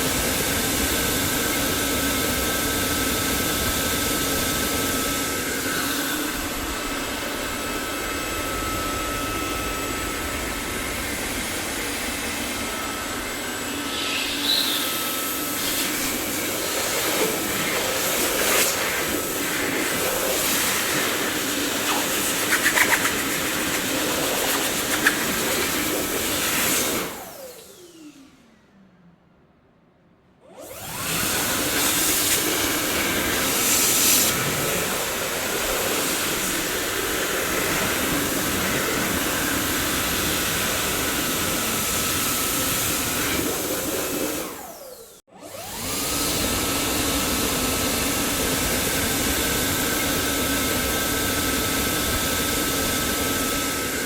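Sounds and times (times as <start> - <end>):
vacuum cleaner motor running: 0.0 - 28.7, 30.4 - 54.0.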